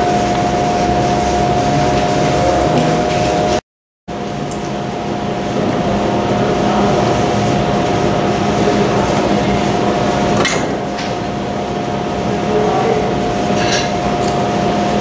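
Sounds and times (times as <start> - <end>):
steady hum with constant tone: 0.0 - 15.0.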